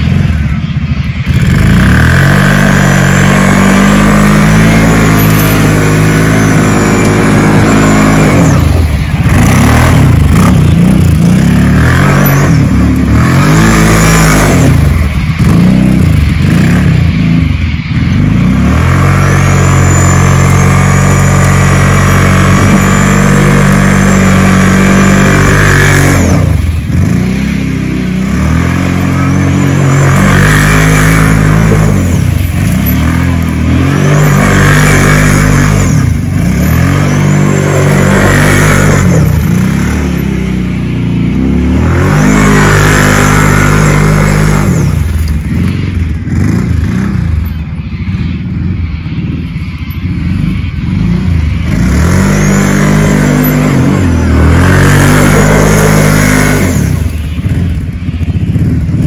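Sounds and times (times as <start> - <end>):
quad bike engine revving: 0.0 - 48.8, 50.2 - 59.0.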